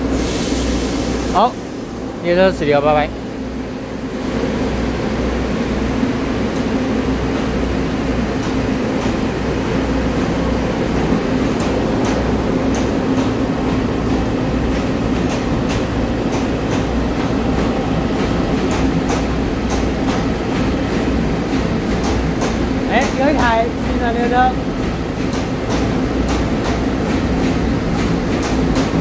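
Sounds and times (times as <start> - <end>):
electric train running past: 0.0 - 29.0.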